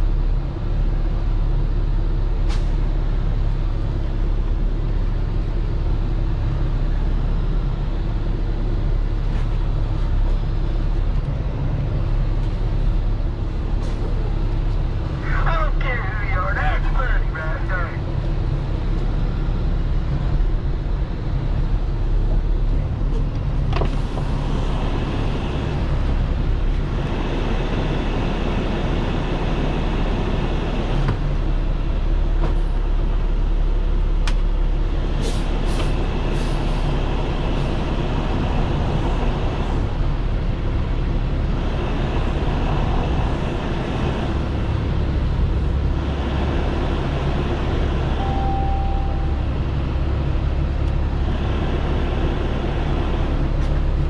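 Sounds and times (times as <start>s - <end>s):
truck engine low rumble: 0.0s - 54.0s.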